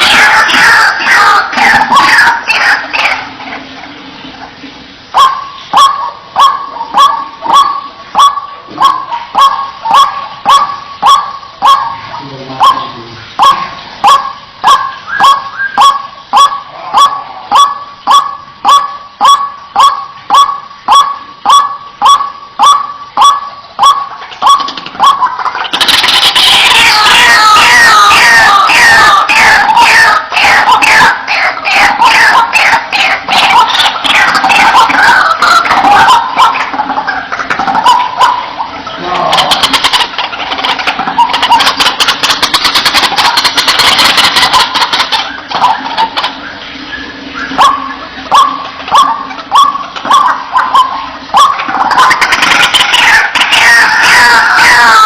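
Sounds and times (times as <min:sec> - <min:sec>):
waterhen calling: 0:00.0 - 0:55.0.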